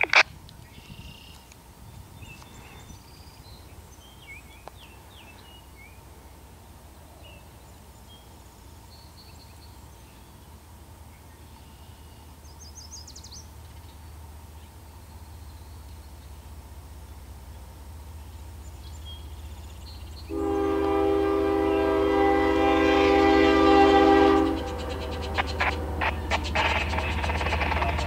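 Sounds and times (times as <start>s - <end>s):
distant freight train rumble: 0.0s - 28.0s
songbirds chirping: 0.1s - 28.0s.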